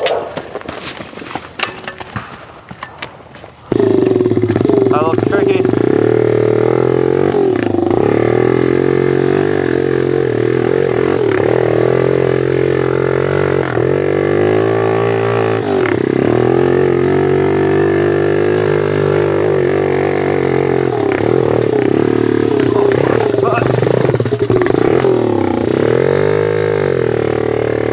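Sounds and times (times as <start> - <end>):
small motorbike engine droning: 3.7 - 27.9.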